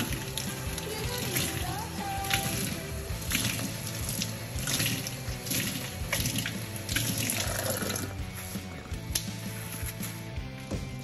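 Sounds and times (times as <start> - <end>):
water running and splashing: 0.0 - 9.3.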